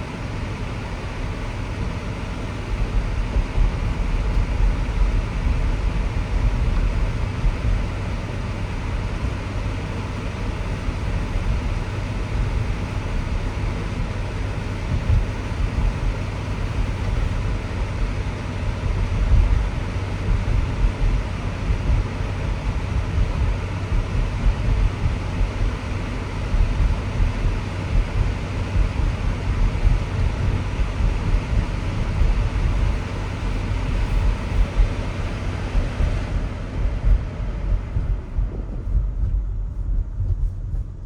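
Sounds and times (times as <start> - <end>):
low driving rumble: 0.0 - 41.0.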